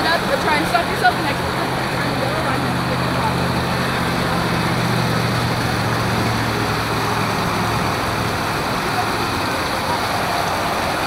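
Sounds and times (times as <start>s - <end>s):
crowd voices: 0.0s - 11.0s
running water rushing: 0.0s - 11.0s.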